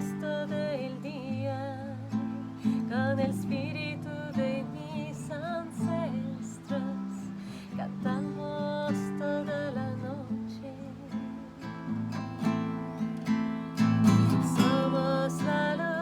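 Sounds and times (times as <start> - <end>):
woman singing: 0.0 - 12.0, 13.8 - 16.0
strummed acoustic guitar: 0.0 - 16.0.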